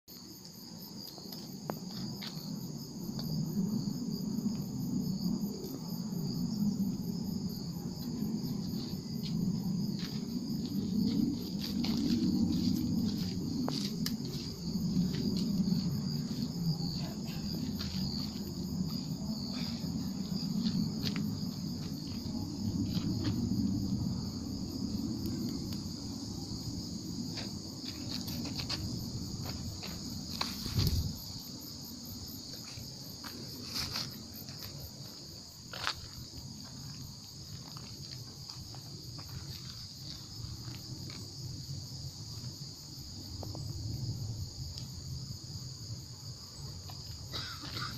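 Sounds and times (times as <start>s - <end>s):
crickets and insects trilling: 0.1s - 47.9s.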